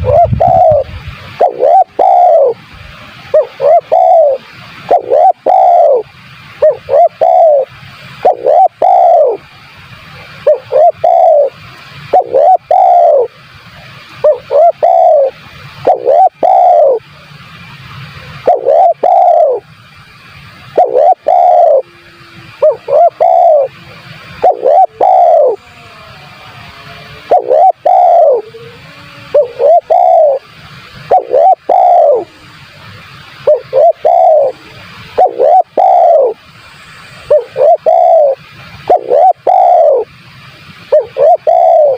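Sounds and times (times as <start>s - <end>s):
dove cooing: 0.0s - 2.6s, 3.3s - 9.4s, 10.4s - 13.4s, 14.2s - 17.1s, 18.3s - 19.6s, 20.7s - 32.6s, 33.4s - 40.1s, 40.9s - 41.9s.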